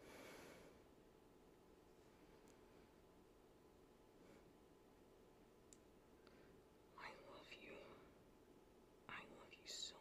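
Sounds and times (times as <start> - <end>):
faint recording hiss: 0.0 - 10.0.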